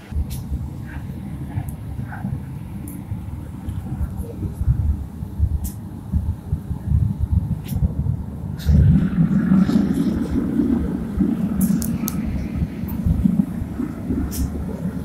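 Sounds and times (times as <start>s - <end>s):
gas burner roaring: 0.0s - 15.0s.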